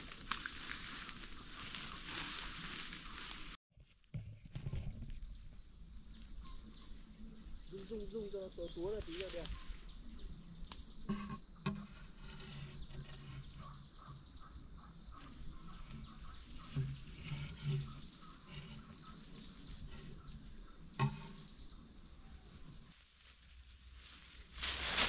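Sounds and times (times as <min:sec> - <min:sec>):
high-pitched insect chorus: 0:00.0 - 0:03.6, 0:05.1 - 0:25.0.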